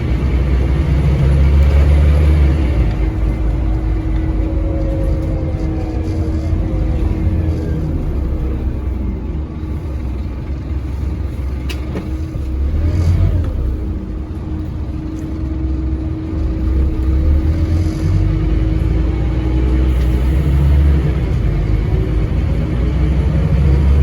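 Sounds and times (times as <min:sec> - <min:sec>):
bus diesel engine rumbling: 0:00.0 - 0:24.0
engine whine: 0:00.0 - 0:24.0.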